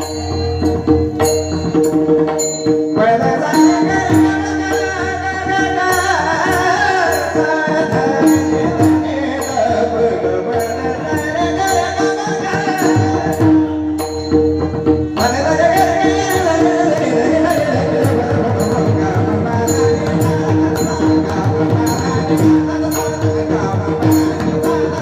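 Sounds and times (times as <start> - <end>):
hand drum: 0.0 - 25.0
men singing: 3.0 - 14.3, 15.1 - 25.0.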